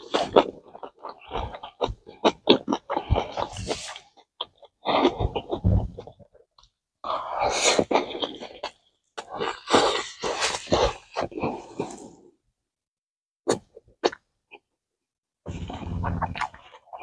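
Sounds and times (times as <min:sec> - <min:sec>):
person chewing food: 0:00.0 - 0:12.4, 0:13.5 - 0:14.7, 0:15.5 - 0:17.0.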